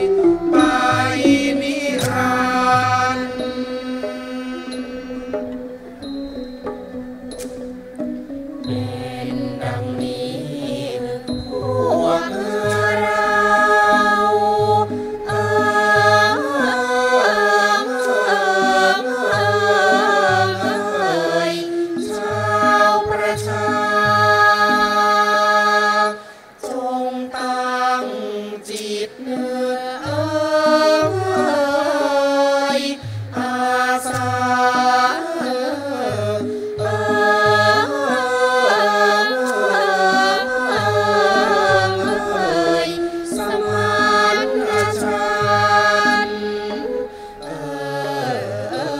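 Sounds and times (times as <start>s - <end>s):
classical ensemble playing: 0.0s - 26.0s, 30.2s - 48.9s
chorus singing in unison: 0.0s - 48.9s.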